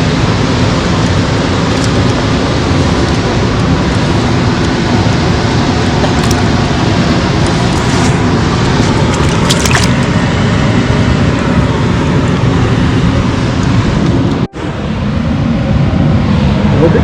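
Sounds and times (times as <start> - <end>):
water rushing through outflow: 0.0 - 13.8.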